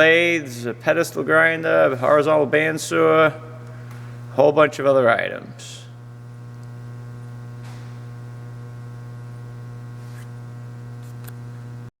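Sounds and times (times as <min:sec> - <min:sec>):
low electrical hum: 0:00.0 - 0:11.9.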